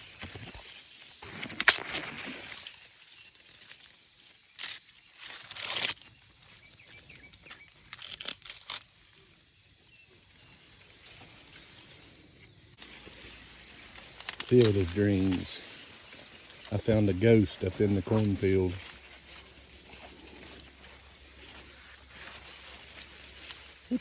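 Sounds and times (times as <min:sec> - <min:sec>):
corn stalks rustling: 0:00.0 - 0:09.2, 0:10.4 - 0:24.0.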